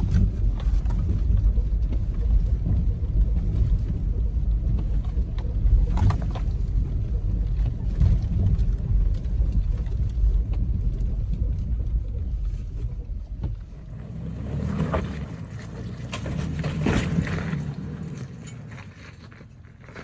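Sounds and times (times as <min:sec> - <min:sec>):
suv engine rumble: 0:00.0 - 0:20.0.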